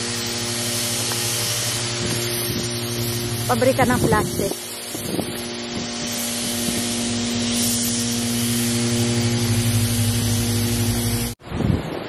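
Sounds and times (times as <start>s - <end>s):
constant hiss: 0.0s - 11.4s
industrial machinery hum: 0.0s - 12.0s.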